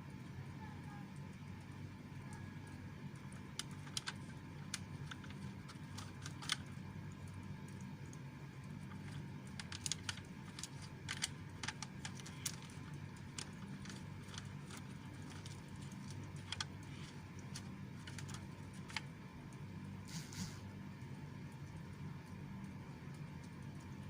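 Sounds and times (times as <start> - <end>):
cat chewing with crunching clicks: 1.1 - 20.0, 20.8 - 24.0.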